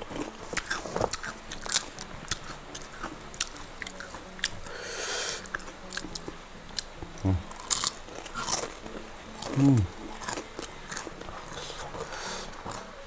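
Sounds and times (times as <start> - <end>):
chewing crunchy food: 0.0 - 4.8, 5.4 - 13.0.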